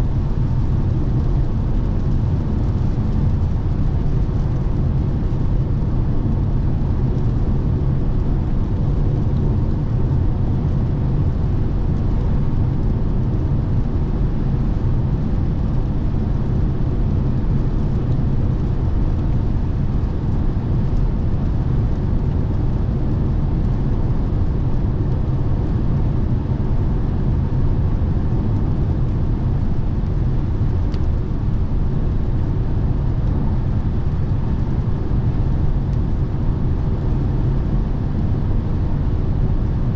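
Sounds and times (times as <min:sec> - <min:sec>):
road and tyre noise inside car: 0:00.0 - 0:39.9.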